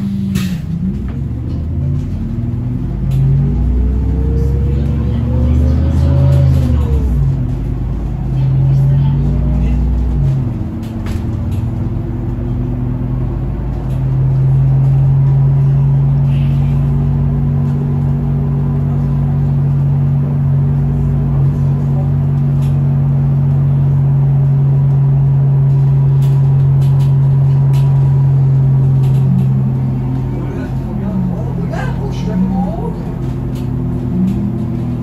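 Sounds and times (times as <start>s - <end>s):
bus driveline drone: 0.0s - 35.0s
road rumble: 0.0s - 35.0s.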